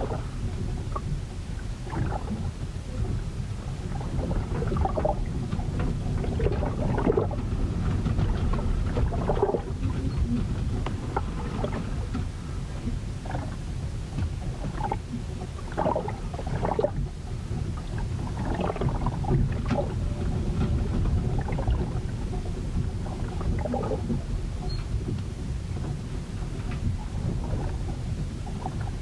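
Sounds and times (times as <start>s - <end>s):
low rumble of wind and water: 0.0s - 29.0s
water breaking on ship hull: 3.8s - 29.0s.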